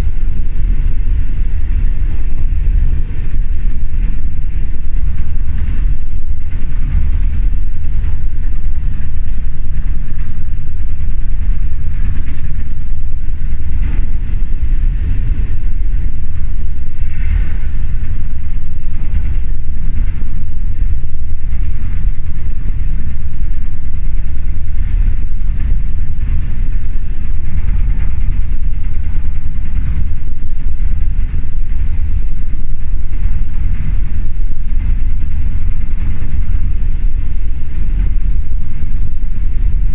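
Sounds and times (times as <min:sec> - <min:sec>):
train rumbling with rattling: 0:00.0 - 0:39.9.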